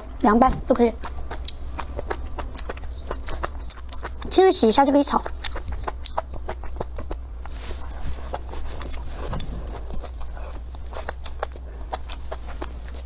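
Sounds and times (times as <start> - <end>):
low hum: 0.0 - 13.0
crunchy chewing: 0.9 - 13.0.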